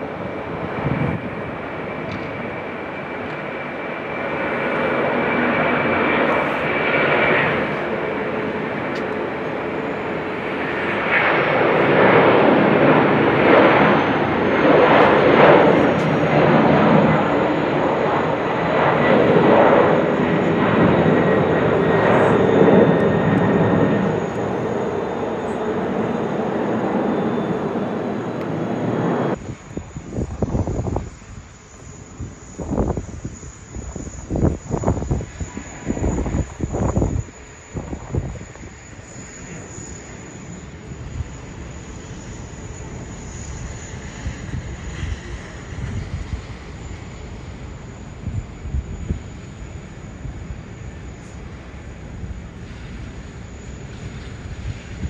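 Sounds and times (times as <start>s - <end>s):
jet airliner engines at takeoff: 0.0s - 55.0s.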